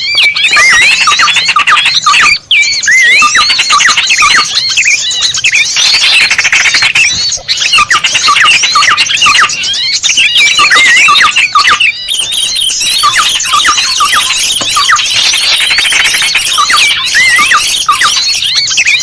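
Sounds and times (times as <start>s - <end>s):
small birds chirping chorus: 0.0s - 19.0s.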